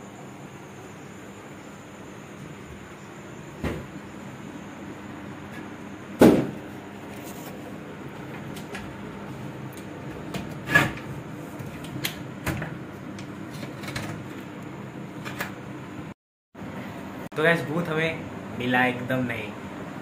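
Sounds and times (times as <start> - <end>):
room fan humming: 0.0 - 20.0.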